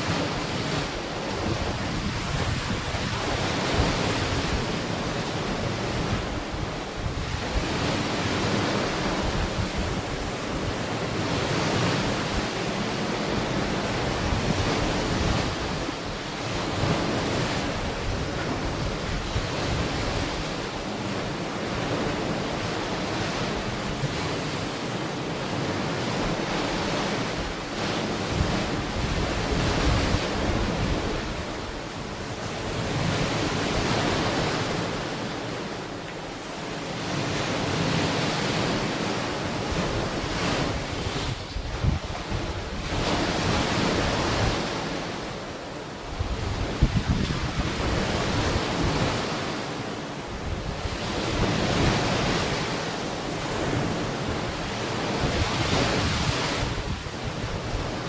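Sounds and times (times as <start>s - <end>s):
wind buffeting microphone: 0.0s - 20.8s, 25.8s - 34.9s, 39.6s - 45.2s, 46.1s - 49.4s, 50.3s - 58.0s
ocean waves on a beach: 0.0s - 58.0s.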